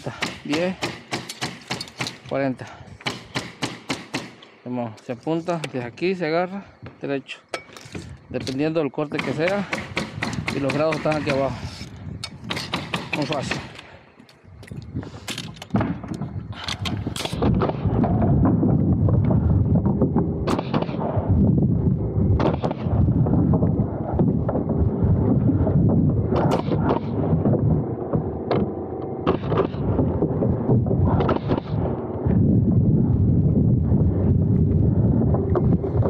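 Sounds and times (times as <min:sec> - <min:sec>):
continuous low rumble: 0:00.0 - 0:36.0.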